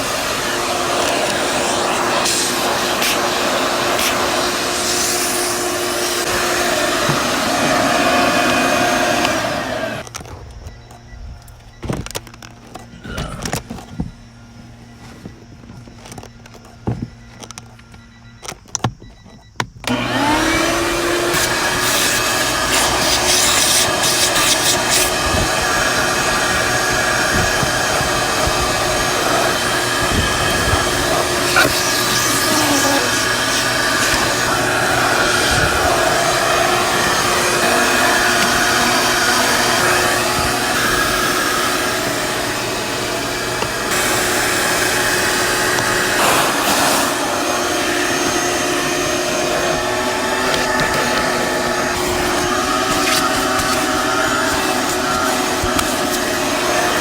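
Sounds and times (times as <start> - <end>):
vacuum cleaner motor running: 0.0 - 10.1, 19.8 - 57.0.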